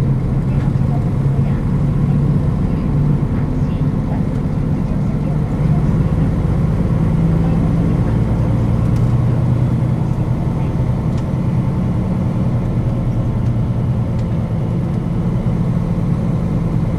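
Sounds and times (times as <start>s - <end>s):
bus diesel engine running: 0.0s - 16.9s
low road rumble: 0.0s - 16.9s.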